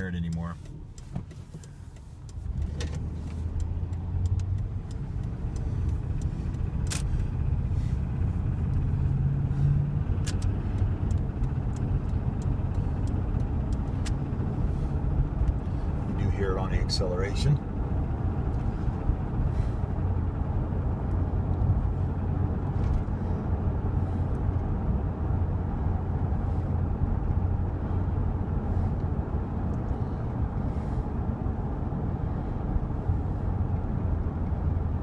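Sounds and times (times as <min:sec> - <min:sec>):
car engine accelerating: 0:00.0 - 0:35.0
engine ticking: 0:00.0 - 0:35.0.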